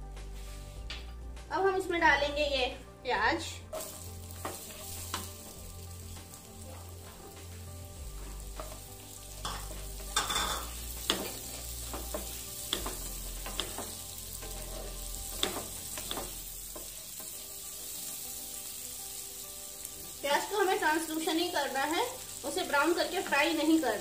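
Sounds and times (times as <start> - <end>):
onions sizzling in pan: 3.4 - 24.0.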